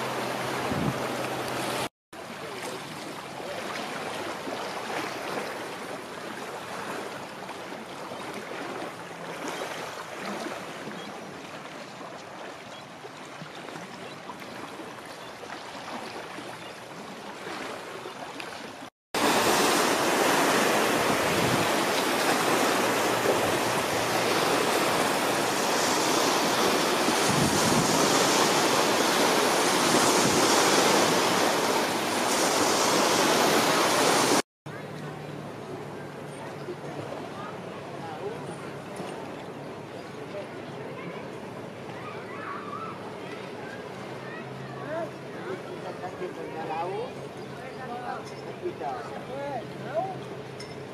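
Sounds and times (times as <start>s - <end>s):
rush of water and wind: 0.0s - 50.9s
small waves lapping: 0.0s - 50.9s
speedboat crossing: 0.0s - 50.9s.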